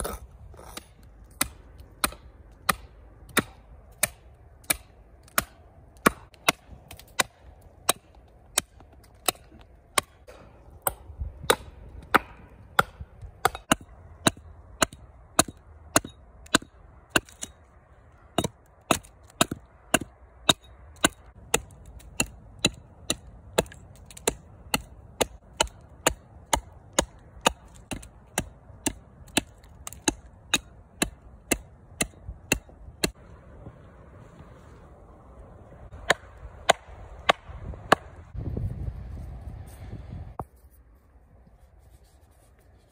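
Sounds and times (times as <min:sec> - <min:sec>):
axe chopping wood: 0:00.0 - 0:17.6, 0:18.3 - 0:33.2, 0:35.9 - 0:38.2.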